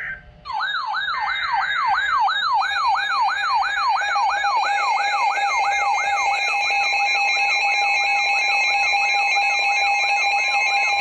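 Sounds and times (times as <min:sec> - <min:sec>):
electronic siren yelp: 0:00.0 - 0:11.0
steady alarm tones: 0:00.0 - 0:11.0.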